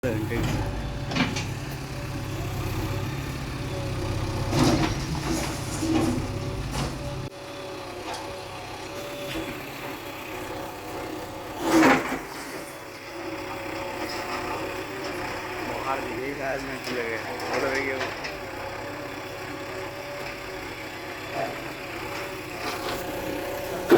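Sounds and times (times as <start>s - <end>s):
bulldozer engine rumbling: 0.0s - 23.9s.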